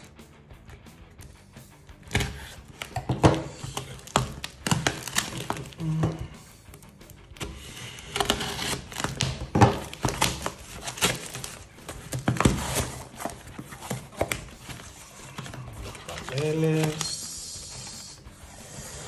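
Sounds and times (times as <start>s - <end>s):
parcel ripping and crinkling: 2.1s - 18.0s
paper rustling: 2.1s - 18.1s.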